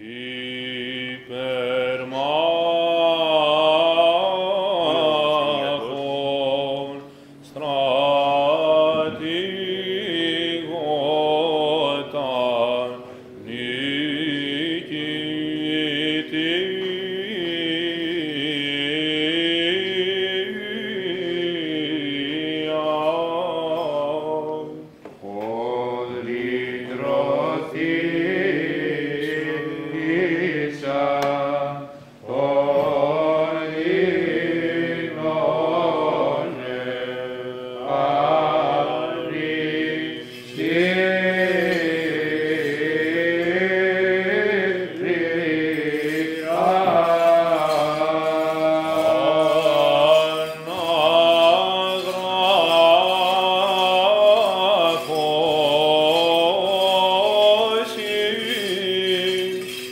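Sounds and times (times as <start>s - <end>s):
chanted melody: 0.0s - 59.9s.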